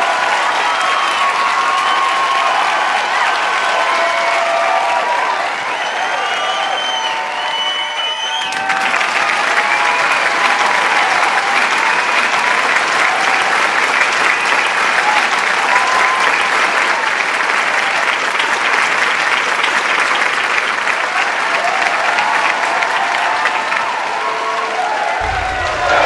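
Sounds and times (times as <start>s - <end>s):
crowd shouting and whooping: 0.0s - 18.2s, 21.1s - 26.0s
crowd clapping: 0.0s - 26.0s.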